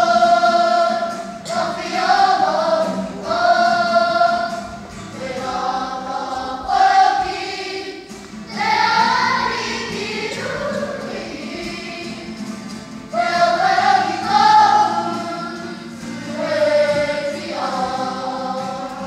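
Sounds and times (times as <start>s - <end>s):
young voices singing together: 0.0s - 19.0s.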